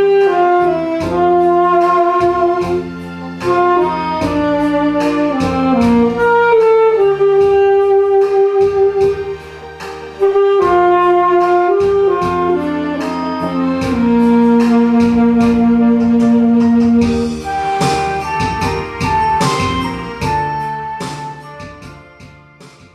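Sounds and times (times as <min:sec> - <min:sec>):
saxophone melody: 0:00.0 - 0:22.8
backing track with steady beat: 0:00.0 - 0:22.9.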